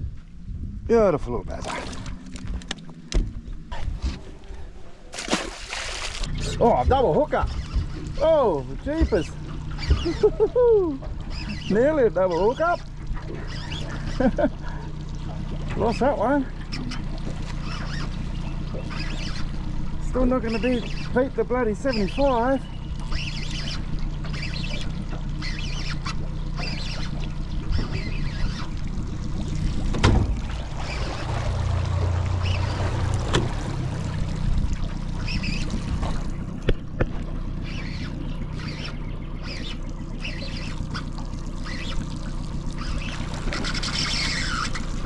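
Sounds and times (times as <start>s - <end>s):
low mechanical hum: 0.0s - 45.0s
water trickling and lapping: 1.4s - 45.0s.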